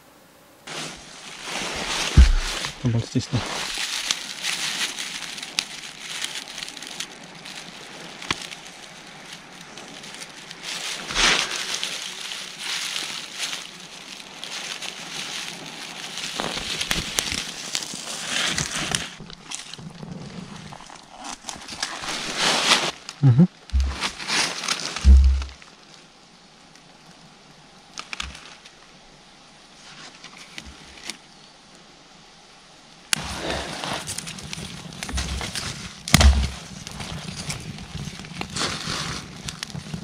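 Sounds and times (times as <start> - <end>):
dry grass rustling and crackling: 0.6 - 27.1, 33.1 - 40.0.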